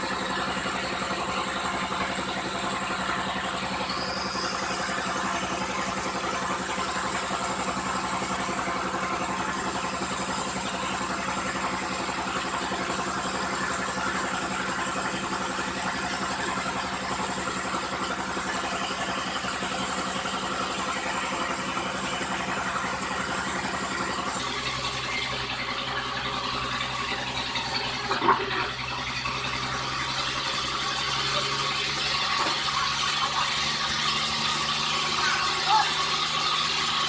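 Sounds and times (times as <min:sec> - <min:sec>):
engine idling: 0:00.0 - 0:37.0.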